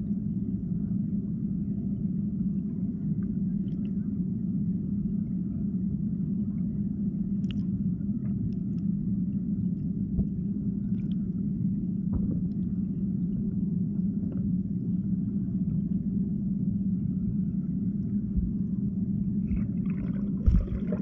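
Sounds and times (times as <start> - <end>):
underwater flowing water rumble: 0.0 - 21.0.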